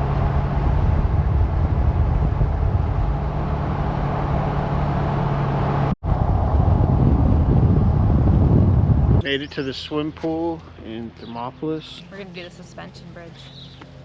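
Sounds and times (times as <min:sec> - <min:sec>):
low engine hum: 0:00.0 - 0:14.0
vehicle road noise: 0:00.0 - 0:14.0.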